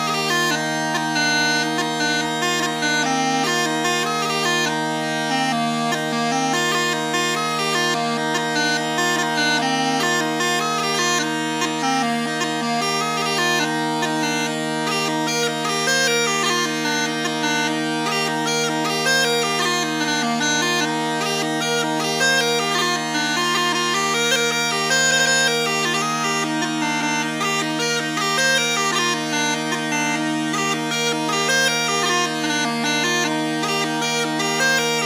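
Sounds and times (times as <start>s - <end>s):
fiddle bowed: 0.0s - 35.0s
smallpipes melody with drone: 0.0s - 35.0s.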